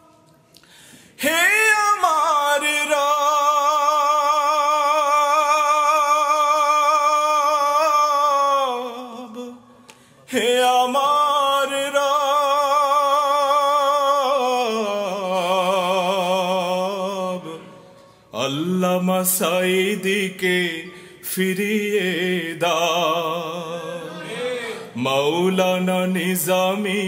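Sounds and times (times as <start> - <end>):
person singing with vibrato: 0.0 - 27.0.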